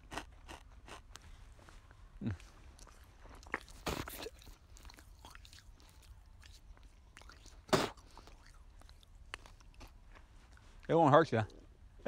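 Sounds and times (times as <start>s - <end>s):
chewing charcoal: 0.0s - 12.0s.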